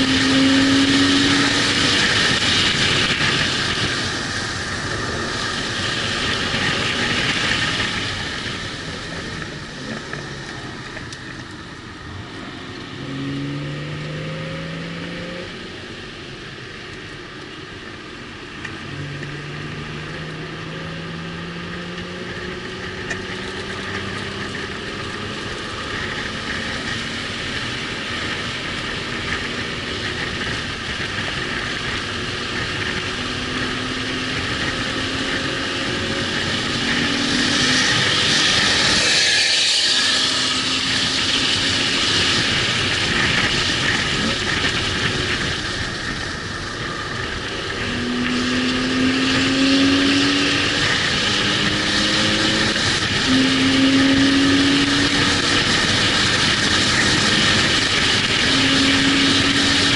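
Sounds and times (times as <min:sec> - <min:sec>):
car engine revving hard: 0:00.0 - 0:10.7, 0:12.6 - 0:15.6, 0:18.8 - 0:59.9.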